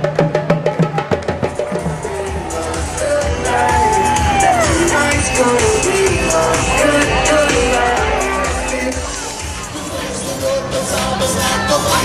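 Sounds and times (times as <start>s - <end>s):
music with clicking percussion beat: 0.0s - 9.6s.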